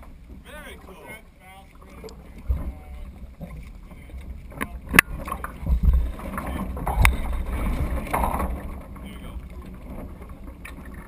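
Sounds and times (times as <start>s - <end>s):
water splashing along hulls: 0.0s - 11.0s
wind buffeting microphone: 2.1s - 11.0s.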